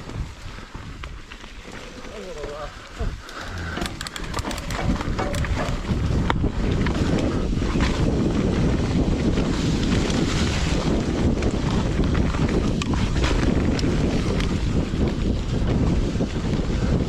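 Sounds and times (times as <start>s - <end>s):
bike ticks and rattles: 0.0s - 10.2s, 10.8s - 17.0s
wind rushing over microphone: 0.0s - 17.0s.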